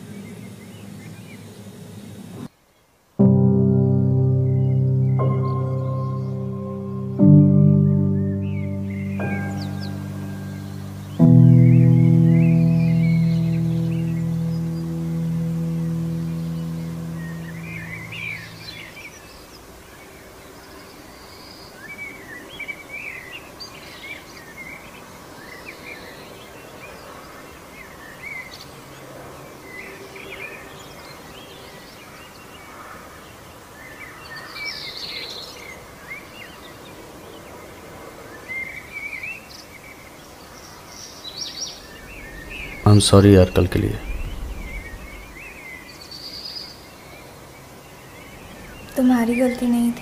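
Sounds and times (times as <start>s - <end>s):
small birds chirping: 0.0s - 3.0s, 4.3s - 50.0s
steady background hiss: 0.0s - 50.0s.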